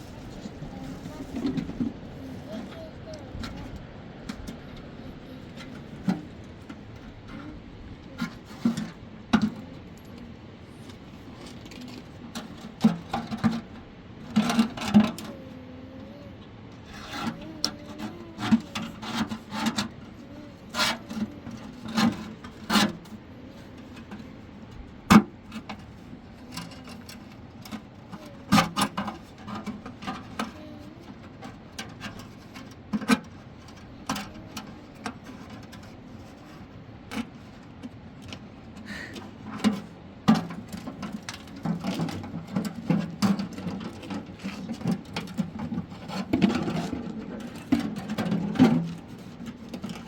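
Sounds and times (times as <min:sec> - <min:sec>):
scraping and rustling: 0:00.0 - 0:50.0.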